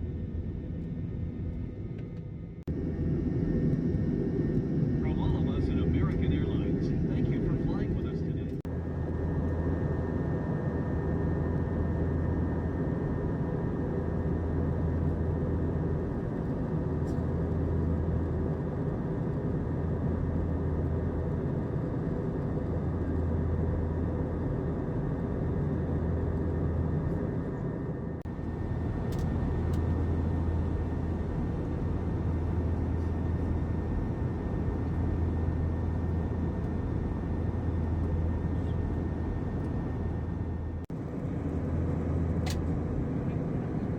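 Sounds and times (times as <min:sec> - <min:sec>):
airliner cabin engine drone: 0:00.0 - 0:43.9.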